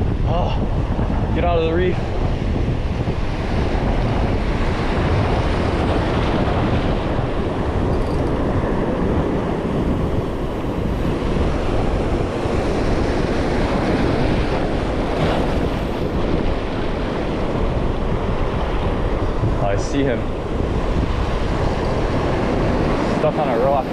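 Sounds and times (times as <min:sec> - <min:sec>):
ocean surf breaking over rock: 0:00.0 - 0:23.9
wind buffeting microphone: 0:00.0 - 0:23.9.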